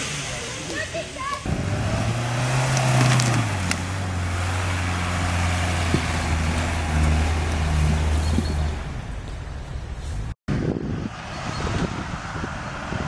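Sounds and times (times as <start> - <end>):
vehicle engine at low revs: 0.0 - 13.0.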